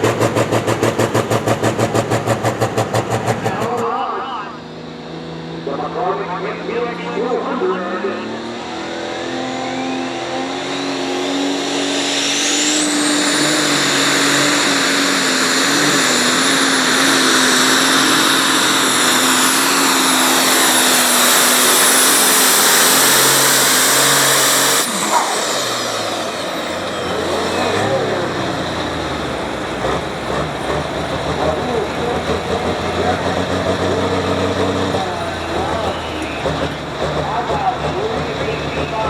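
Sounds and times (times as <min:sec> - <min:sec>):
tractor engine under load: 0:00.0 - 0:07.6, 0:11.4 - 0:39.0
high turbo whine: 0:00.0 - 0:39.0.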